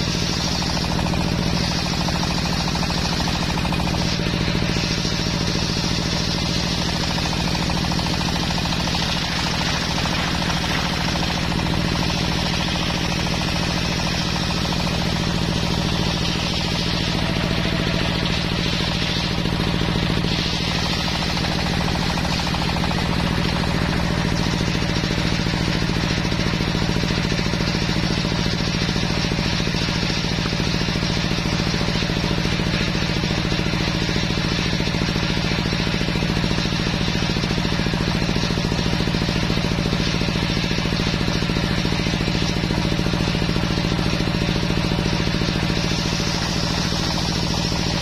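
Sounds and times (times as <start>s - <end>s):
saw blade rasping through wood: 0.0s - 26.2s, 27.0s - 48.0s
saw engine knocking: 0.0s - 48.0s.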